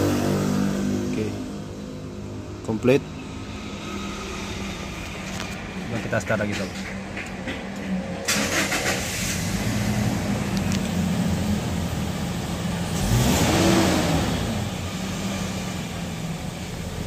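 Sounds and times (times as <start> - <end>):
petrol engine idling and revving: 0.0 - 17.0.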